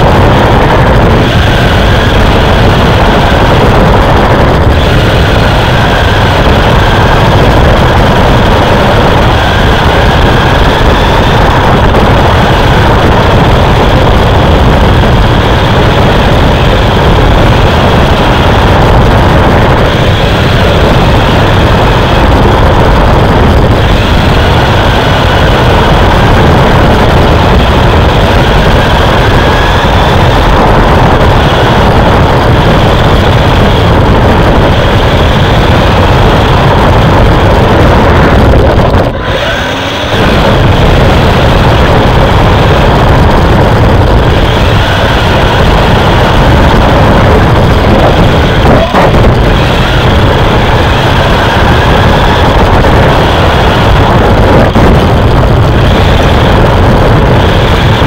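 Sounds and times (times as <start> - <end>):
race car engine running: 0.0 - 58.0
road and wind noise: 0.0 - 58.0.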